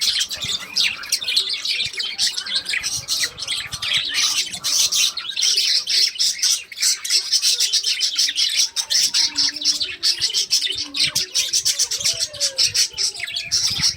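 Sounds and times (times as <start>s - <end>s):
parrots chattering: 0.0s - 13.9s.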